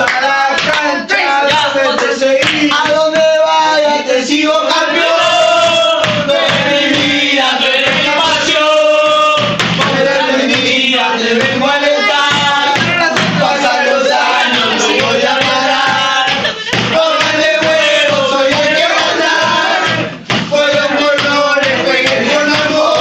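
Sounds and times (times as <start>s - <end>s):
supporters singing a chant: 0.0s - 23.0s
pounding drums: 1.4s - 3.6s, 4.7s - 23.0s.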